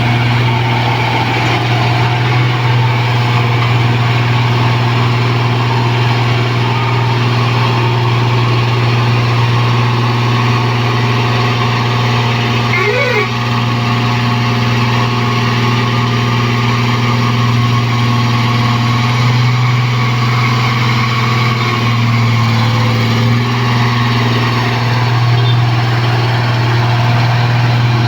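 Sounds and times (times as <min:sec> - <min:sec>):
diesel engine humming: 0:00.0 - 0:28.0.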